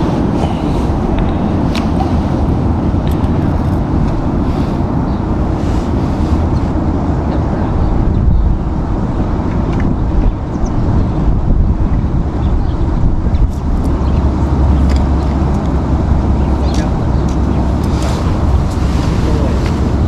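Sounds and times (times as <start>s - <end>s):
wind buffeting the microphone: 0.0s - 20.0s.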